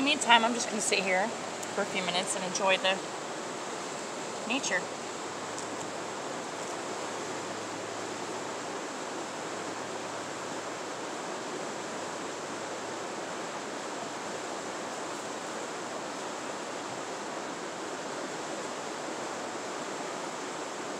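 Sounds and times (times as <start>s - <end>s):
river rushing: 0.0s - 20.9s.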